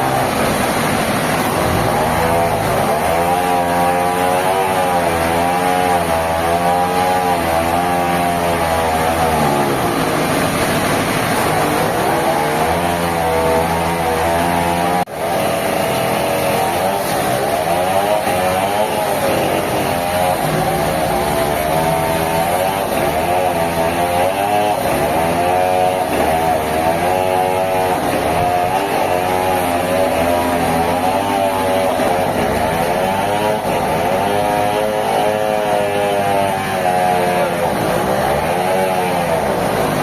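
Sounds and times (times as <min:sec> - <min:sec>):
sawmill machinery running hard: 0:00.0 - 0:40.0.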